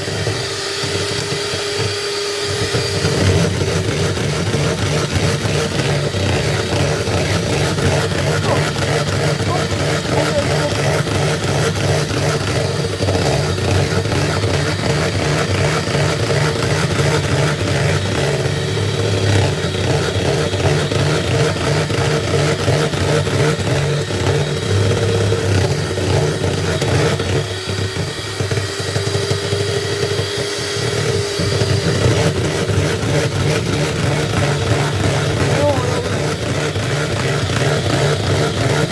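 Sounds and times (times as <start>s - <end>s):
electric mixer motor running: 0.0s - 38.9s.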